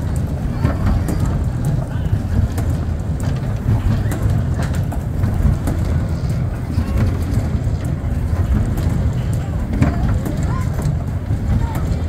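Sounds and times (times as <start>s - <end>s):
ride cars rumbling: 0.0s - 12.0s.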